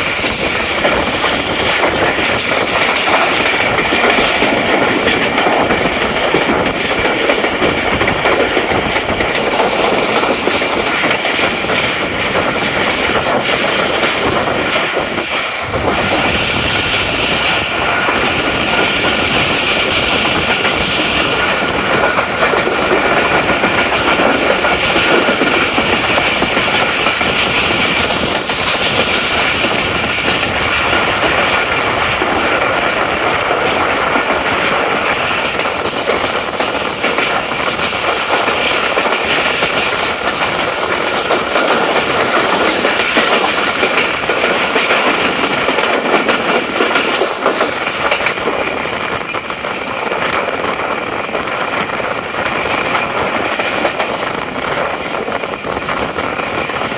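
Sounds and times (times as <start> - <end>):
clickety-clack of rail joints: 0.0 - 56.9
train wheels rumbling on rails: 0.0 - 56.9.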